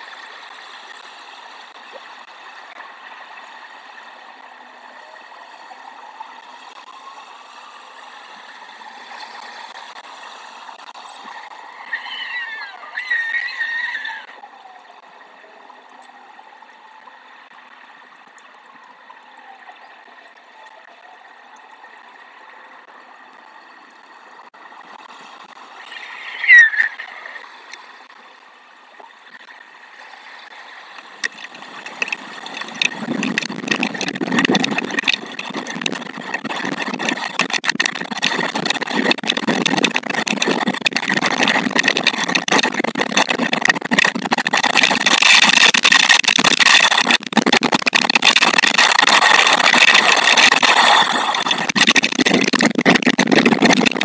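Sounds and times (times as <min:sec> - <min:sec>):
raindrops hitting microphone: 0:00.0 - 0:54.0
wind: 0:00.0 - 0:54.0.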